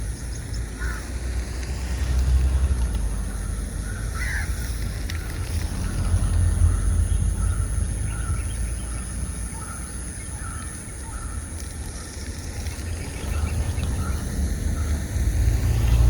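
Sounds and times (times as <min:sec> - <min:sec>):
low rumble: 0:00.0 - 0:10.0, 0:12.2 - 0:16.0.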